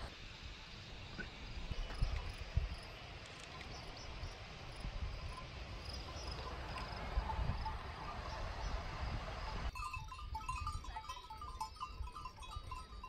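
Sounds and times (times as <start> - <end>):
insects chirping: 0.3 - 13.0
wind rumble on microphone: 1.2 - 13.0.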